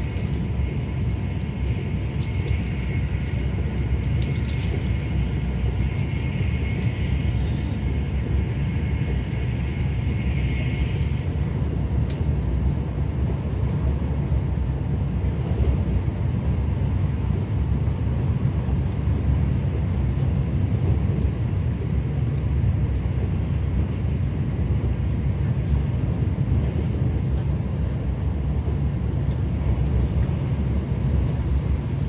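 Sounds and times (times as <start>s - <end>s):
train rumble inside cabin: 0.0s - 32.0s.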